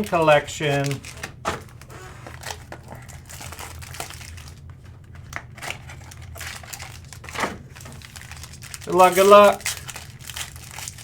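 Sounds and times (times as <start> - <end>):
card packaging crinkling: 0.0 - 11.0.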